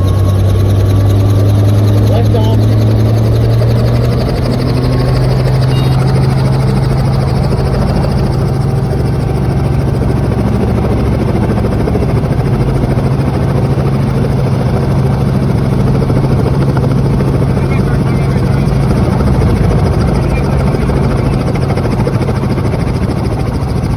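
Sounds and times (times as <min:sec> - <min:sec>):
helicopter rotor and turbine: 0:00.0 - 0:23.9.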